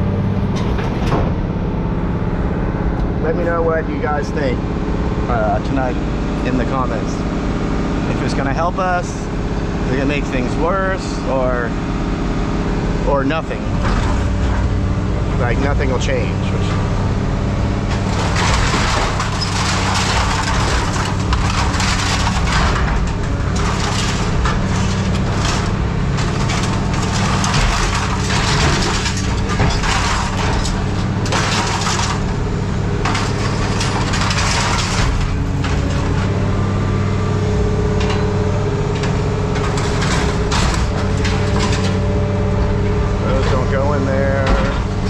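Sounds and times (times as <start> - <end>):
low engine hum: 0.0 - 45.0
scrap metal crunching and clattering: 0.0 - 45.0.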